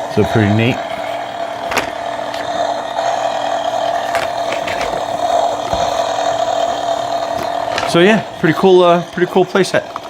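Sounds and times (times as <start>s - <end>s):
toy electric motor buzzing: 0.0s - 10.0s.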